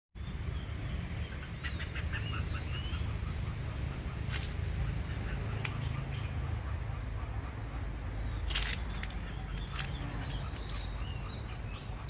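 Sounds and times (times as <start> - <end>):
squirrel chirping: 0.5 - 12.0.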